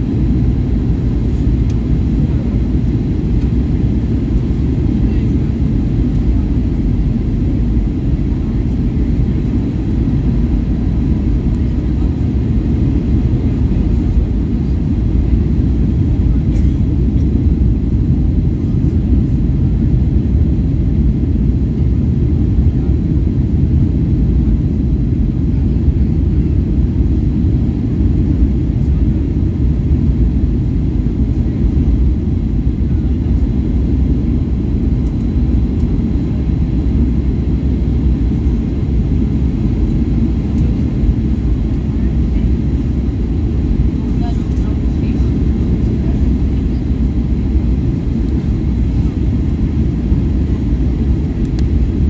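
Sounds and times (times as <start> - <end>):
airflow over airframe: 0.0 - 52.0
jet engines rumbling in cabin: 0.0 - 52.0.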